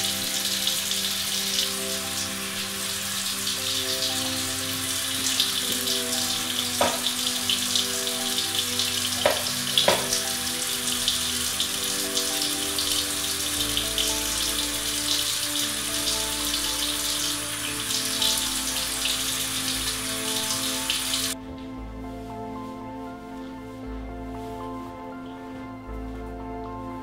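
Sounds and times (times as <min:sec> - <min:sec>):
crackling rain-like hiss: 0:00.0 - 0:27.0
soft sustained chords: 0:00.0 - 0:27.0
low bass line: 0:04.2 - 0:27.0.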